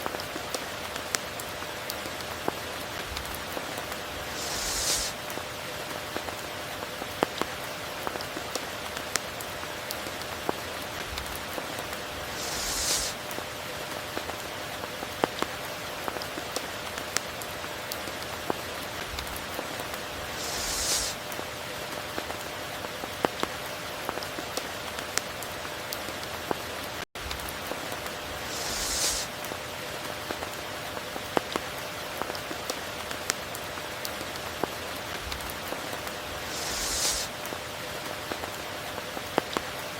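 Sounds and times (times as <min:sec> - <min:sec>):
raindrops ticking on a surface: 0:00.0 - 0:04.4, 0:05.1 - 0:12.4, 0:13.1 - 0:20.2, 0:21.1 - 0:28.5, 0:29.2 - 0:36.6, 0:37.2 - 0:39.9
steady rain falling: 0:00.0 - 0:39.9.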